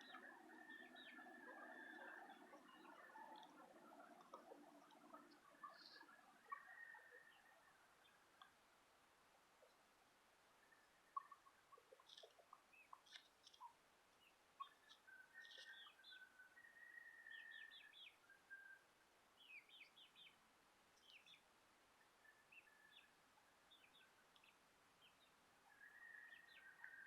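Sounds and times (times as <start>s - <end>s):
faint bird chirps: 0.0s - 8.5s, 10.6s - 20.4s, 21.0s - 27.0s.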